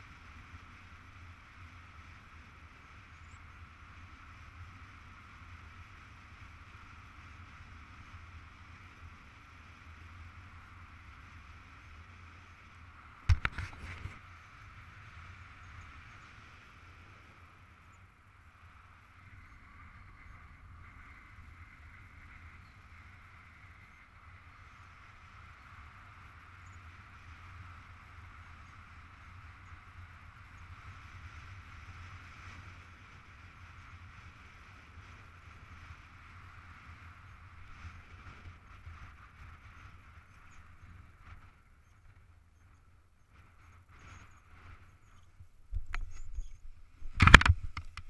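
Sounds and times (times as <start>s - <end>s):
wind noise on camera: 0.0s - 48.0s.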